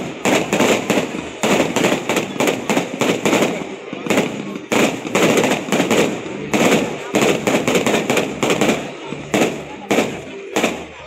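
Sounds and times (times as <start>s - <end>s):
fireworks bursting with crackling: 0.0s - 11.0s.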